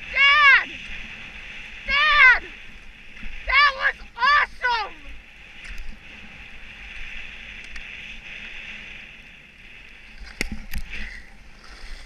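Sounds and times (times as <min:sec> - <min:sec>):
skis sliding over snow: 0:00.0 - 0:12.0.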